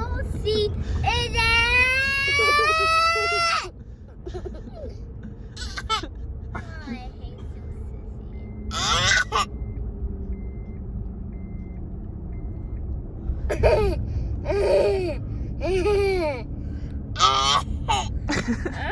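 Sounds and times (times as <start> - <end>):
steady low rumble: 0.0 - 18.9.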